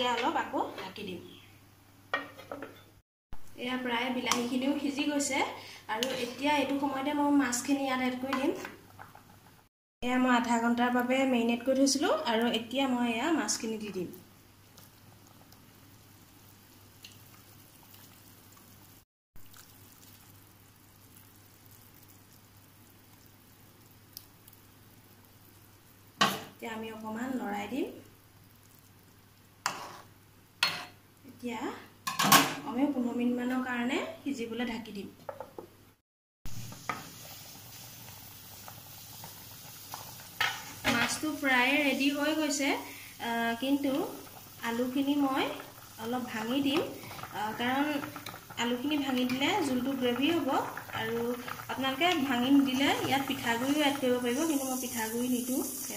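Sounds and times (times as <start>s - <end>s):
broth bubbling in a pot: 3.4s - 32.1s, 36.5s - 55.9s.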